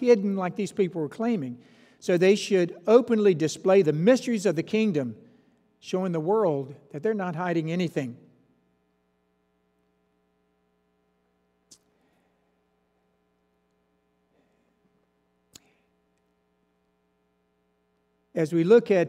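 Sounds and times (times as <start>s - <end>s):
faint electrical mains hum: 0.0s - 19.0s.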